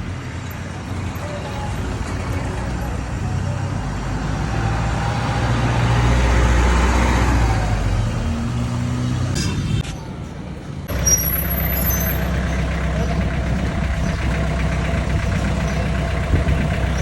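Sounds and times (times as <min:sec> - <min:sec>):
voices: 0:00.0 - 0:08.3, 0:09.8 - 0:17.0
vehicle engine passing: 0:00.0 - 0:09.4, 0:10.8 - 0:17.0.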